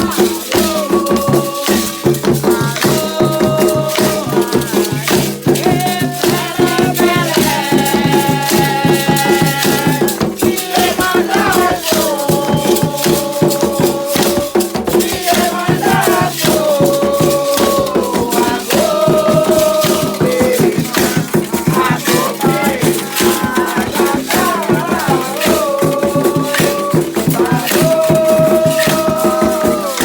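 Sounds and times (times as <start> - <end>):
chant of held sung notes: 0.0 - 30.0
rattles shaken rhythmically: 0.0 - 30.0.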